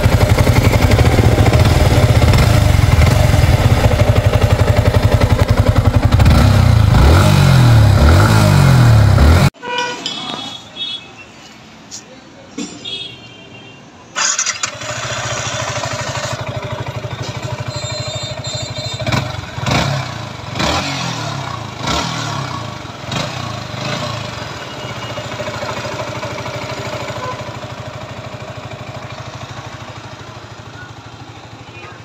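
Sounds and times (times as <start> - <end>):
motorcycle engine idling and revving: 0.0 - 9.6, 14.2 - 32.0.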